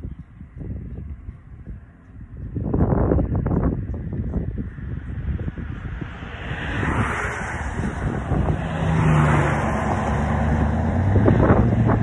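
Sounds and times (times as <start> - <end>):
passing engine hum: 0.0 - 12.0
wind buffeting microphone: 0.0 - 12.0.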